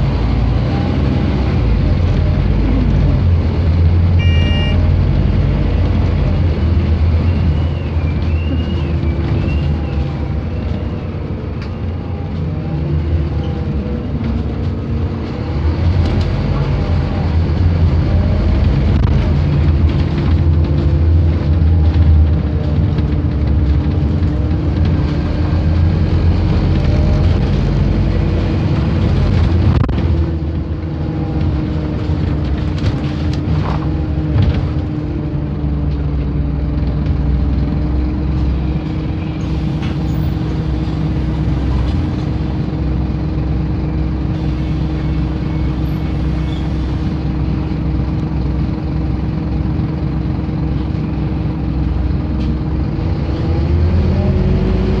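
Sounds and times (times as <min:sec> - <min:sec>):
bus engine droning: 0:00.0 - 0:55.0.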